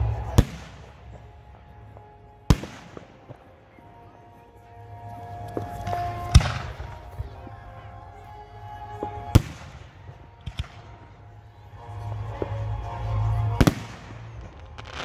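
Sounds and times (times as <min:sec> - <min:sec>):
music with held notes: 0:00.0 - 0:15.0.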